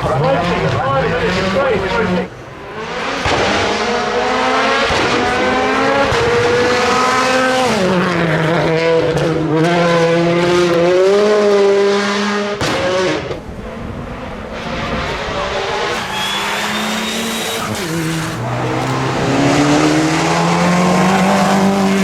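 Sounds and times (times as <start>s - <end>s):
rally car engine at high revs: 0.0s - 22.0s.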